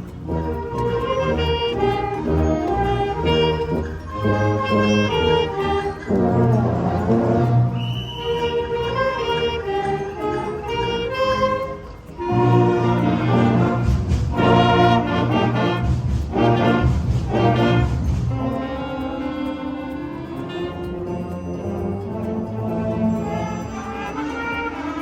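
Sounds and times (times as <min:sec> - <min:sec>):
wind band playing: 0:00.0 - 0:25.0.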